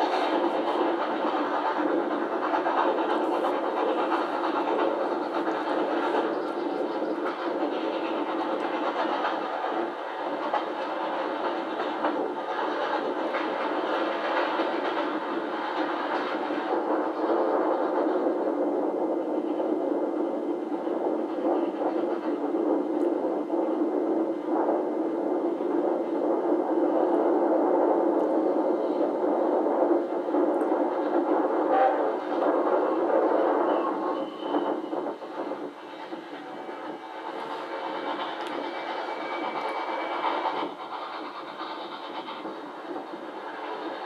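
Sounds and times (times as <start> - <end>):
steam train rumbling: 0.0 - 44.0.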